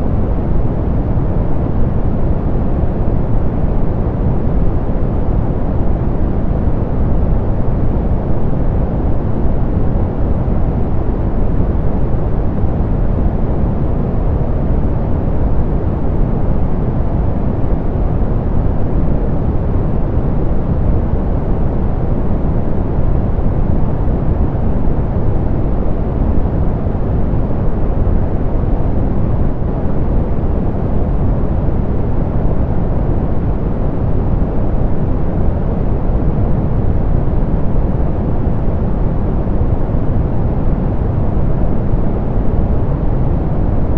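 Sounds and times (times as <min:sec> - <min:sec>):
soft pink noise hiss: 0:00.0 - 0:43.9.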